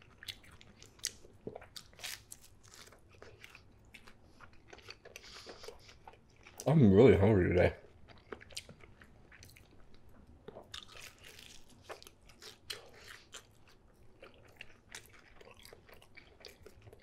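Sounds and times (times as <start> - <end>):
person chewing with crunches: 0.0 - 6.7, 7.8 - 17.0.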